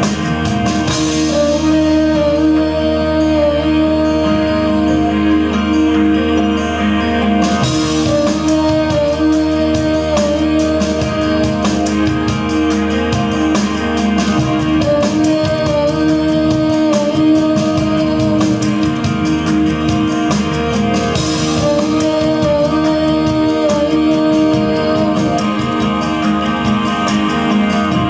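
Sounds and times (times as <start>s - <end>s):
song with vocal and beat: 0.0s - 28.0s.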